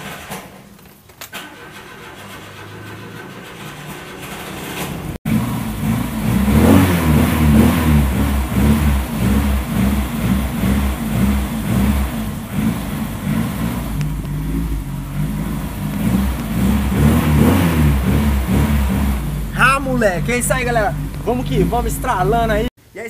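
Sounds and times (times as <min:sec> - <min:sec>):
car engine revving in garage: 0:00.0 - 0:00.7, 0:01.3 - 0:22.8.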